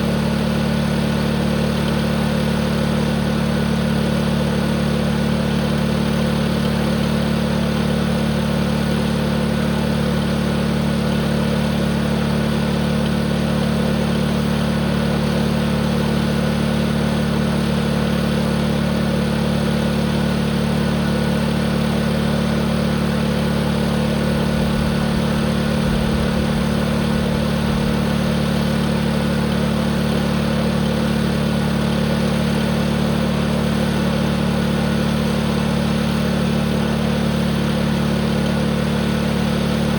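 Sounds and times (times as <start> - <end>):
tractor engine at full throttle: 0.0 - 39.9.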